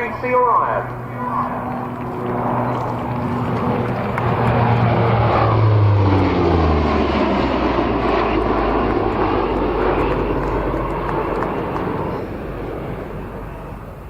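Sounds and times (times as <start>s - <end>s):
aircraft rumble: 0.0s - 14.0s
propeller drone: 0.0s - 14.0s.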